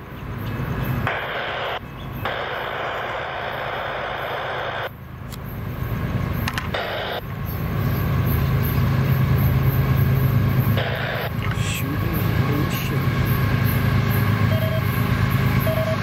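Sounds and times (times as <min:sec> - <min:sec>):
low engine rumble: 0:00.0 - 0:16.0
hissing noise: 0:01.0 - 0:05.0, 0:05.9 - 0:15.6.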